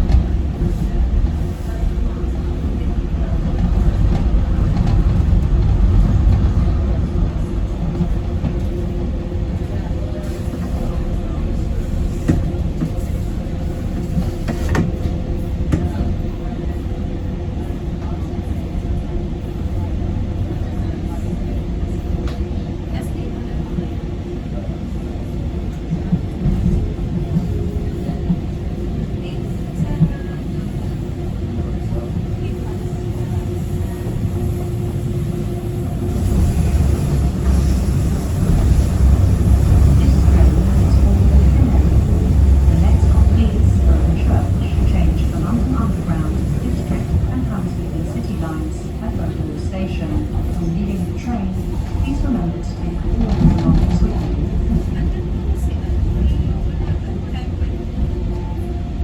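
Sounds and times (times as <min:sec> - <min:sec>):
train wheels and motors rumbling: 0:00.0 - 0:59.0.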